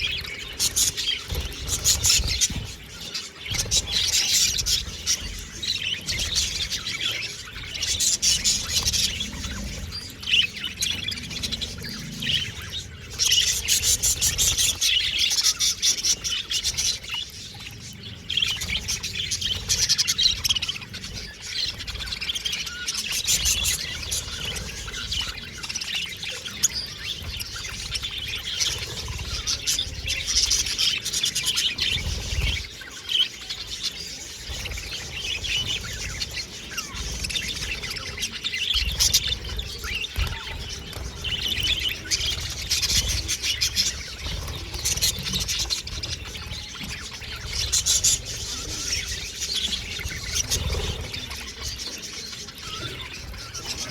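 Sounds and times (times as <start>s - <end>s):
budgerigars chattering and chirping: 0.0s - 53.9s.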